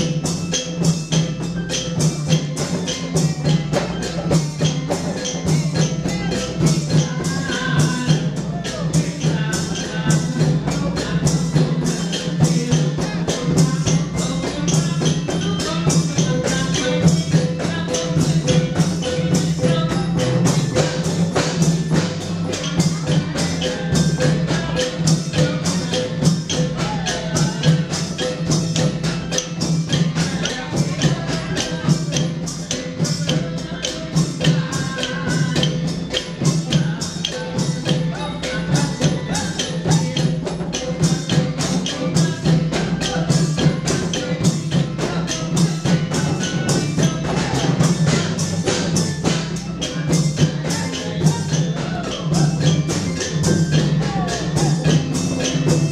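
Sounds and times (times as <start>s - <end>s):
long drums beating: 0.0s - 55.9s.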